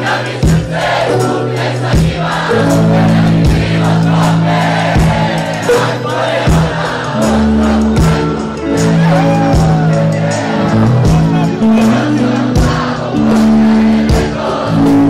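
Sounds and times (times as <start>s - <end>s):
crowd singing along: 0.0s - 15.0s
live band music: 0.0s - 15.0s
slow steady drum beat: 0.0s - 15.0s.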